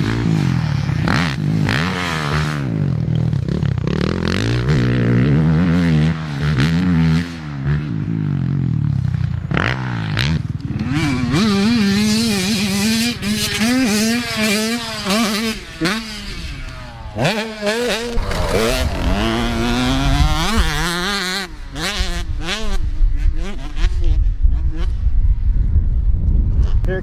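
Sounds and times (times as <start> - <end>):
dirt bike engines revving: 0.0 - 25.5.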